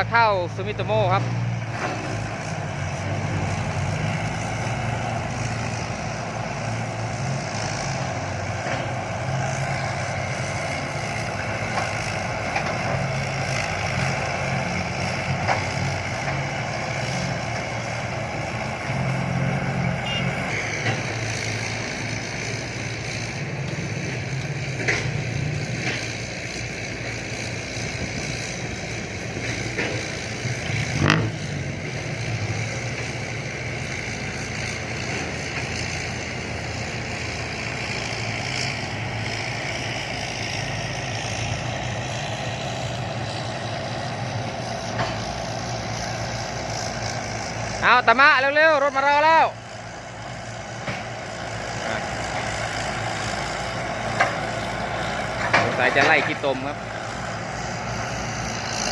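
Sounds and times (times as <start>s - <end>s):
heavy diesel engines running: 0.0s - 58.9s.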